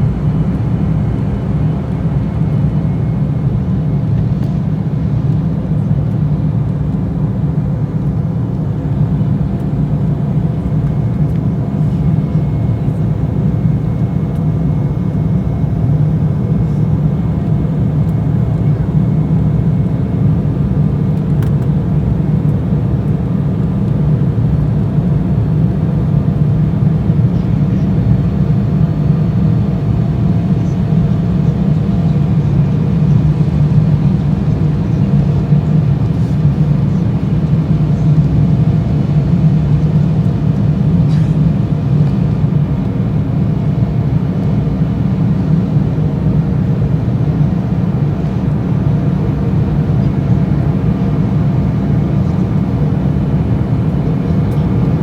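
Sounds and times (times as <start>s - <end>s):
airliner engines rumbling: 0.0s - 55.0s
faint engine whine: 0.0s - 55.0s.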